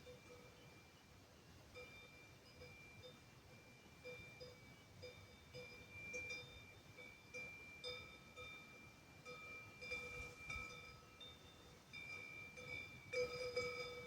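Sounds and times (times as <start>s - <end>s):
cowbells ringing: 0.0s - 14.0s.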